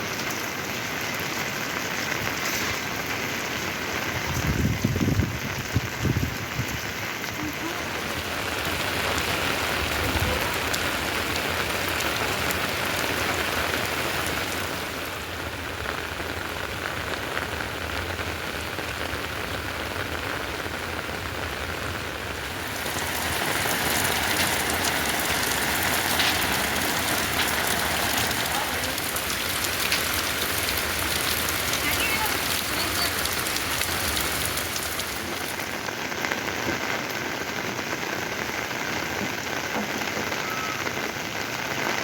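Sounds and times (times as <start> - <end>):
heavy rain hissing: 0.0 - 42.0.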